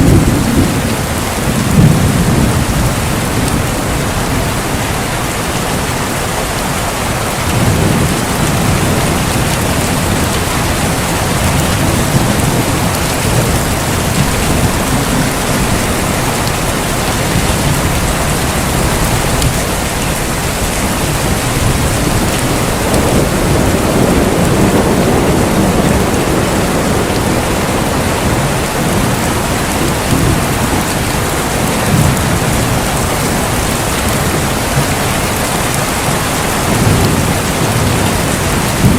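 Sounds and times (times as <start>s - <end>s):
low rolling thunder: 0.0s - 5.9s, 6.5s - 38.9s
heavy rain: 0.0s - 38.9s.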